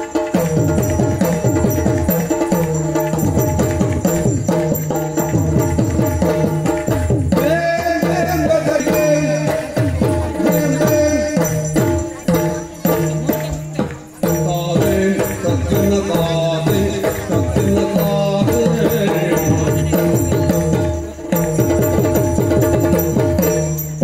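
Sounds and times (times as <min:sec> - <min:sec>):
rapid hand drum strokes: 0:00.0 - 0:24.0.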